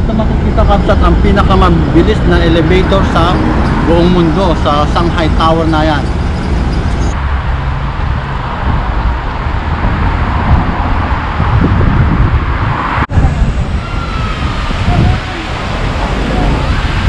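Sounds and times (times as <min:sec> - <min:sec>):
busy street traffic: 0:00.0 - 0:17.0
wind rumbling on microphone: 0:00.0 - 0:17.0.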